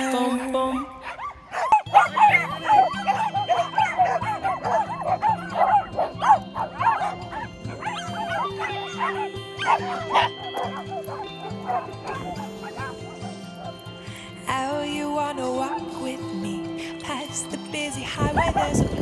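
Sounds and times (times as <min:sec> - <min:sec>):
pop song: 0:00.0 - 0:01.3, 0:01.9 - 0:19.0
small dogs barking and yipping: 0:00.0 - 0:19.0.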